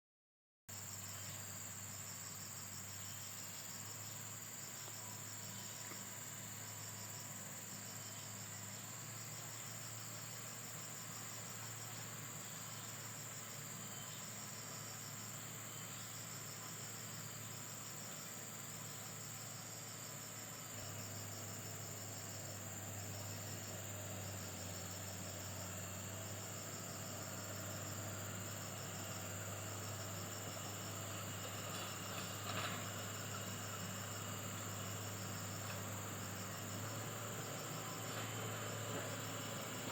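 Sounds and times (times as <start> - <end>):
insects chirping: 0.7 - 39.9
constant high whine: 0.8 - 39.9.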